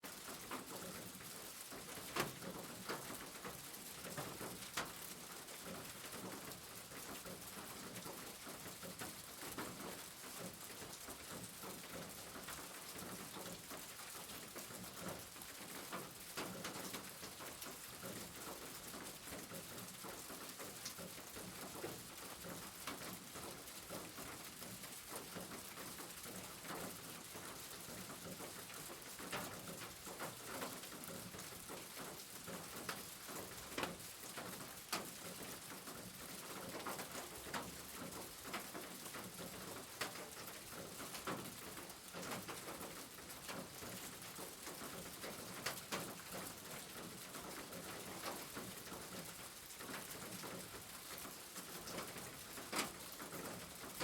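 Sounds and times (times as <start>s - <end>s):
rain hissing on a roof: 0.0s - 54.0s.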